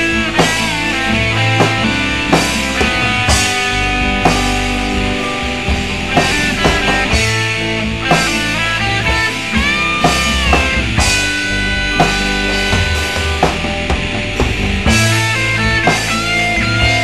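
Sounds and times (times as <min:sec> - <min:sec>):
bass guitar: 0:00.0 - 0:17.0
drum kit steady beat: 0:00.0 - 0:17.0
sustained electric guitar notes: 0:00.0 - 0:17.0.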